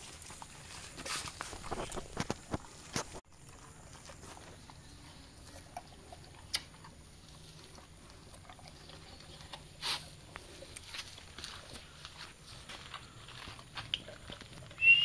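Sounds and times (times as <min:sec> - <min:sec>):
dog chewing: 0:00.0 - 0:15.0.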